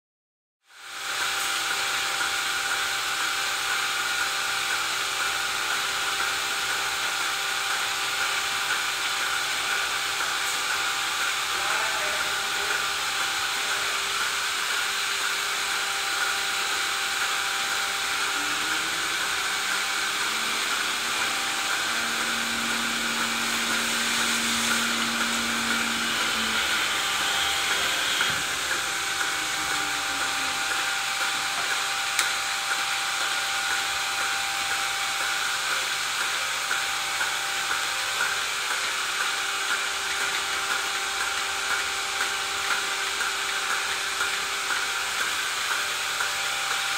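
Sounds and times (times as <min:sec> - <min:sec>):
machinery hiss and whir: 0:00.7 - 0:46.9.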